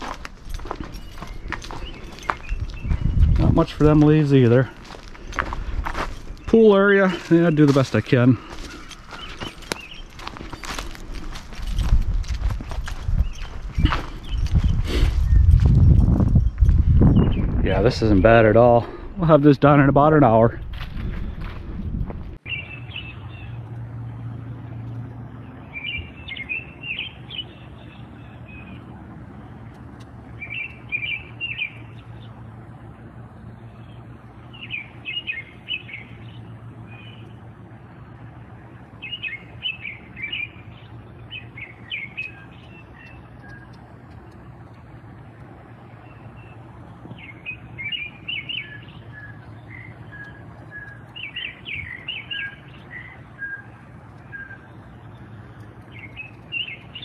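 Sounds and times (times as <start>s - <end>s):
low steady hum: 0.0s - 57.0s
songbirds chirping: 0.0s - 57.0s.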